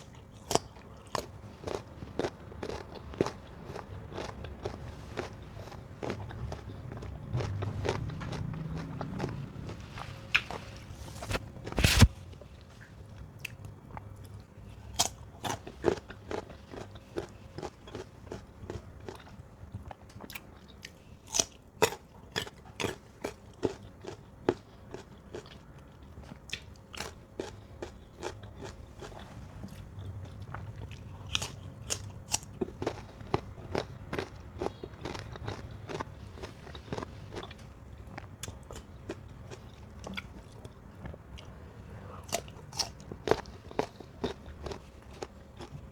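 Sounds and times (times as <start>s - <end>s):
person chewing crisp mango: 0.0s - 45.9s.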